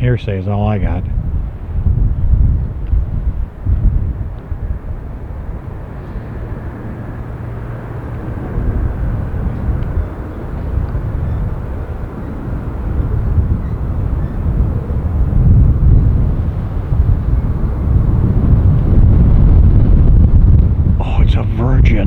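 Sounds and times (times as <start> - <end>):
wind buffeting microphone: 0.0 - 22.0
jet engine rumble: 0.1 - 22.0.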